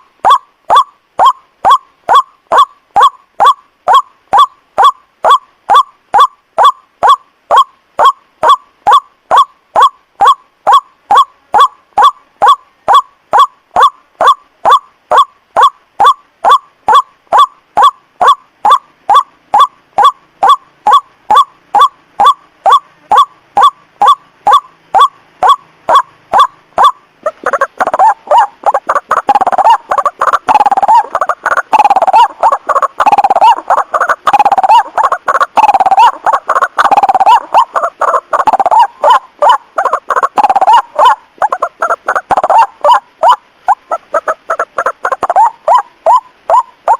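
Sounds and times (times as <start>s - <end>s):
waterhen calls recording: 0.0s - 46.9s.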